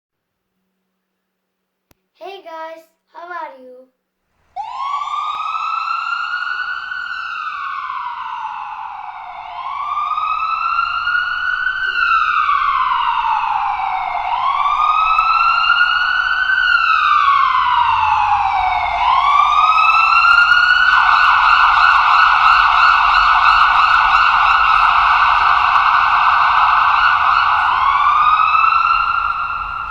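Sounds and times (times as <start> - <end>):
ambulance siren wailing: 4.6 - 29.9.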